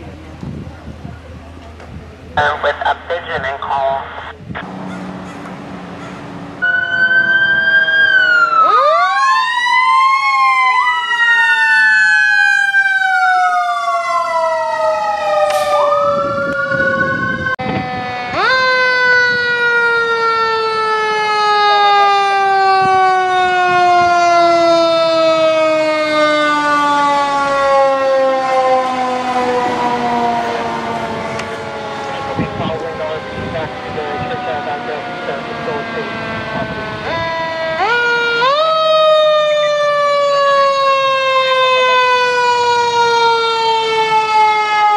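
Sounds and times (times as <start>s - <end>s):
fire engine sirens wailing: 0.0s - 44.9s.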